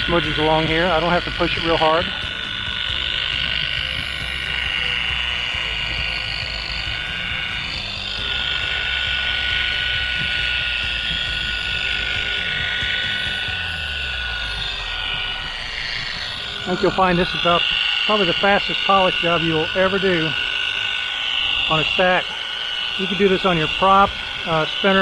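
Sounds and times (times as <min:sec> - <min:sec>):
buffer motor whine: 0:00.0 - 0:25.0
steel wool rasping on metal: 0:00.0 - 0:25.0.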